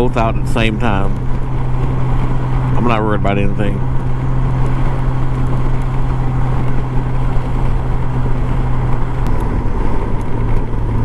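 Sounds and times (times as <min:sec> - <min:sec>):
motorcycle engine humming: 0:00.0 - 0:11.0
wind and road noise: 0:00.0 - 0:11.0.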